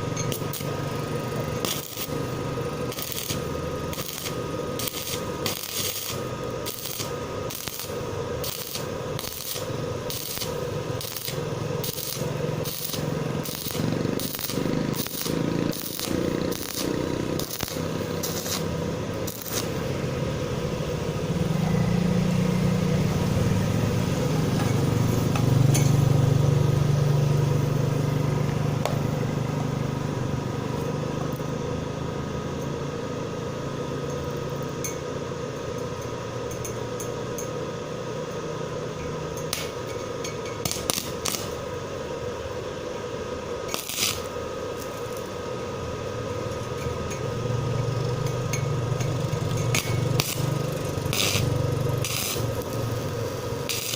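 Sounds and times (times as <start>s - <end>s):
arc welding crackling: 0.0s - 53.9s.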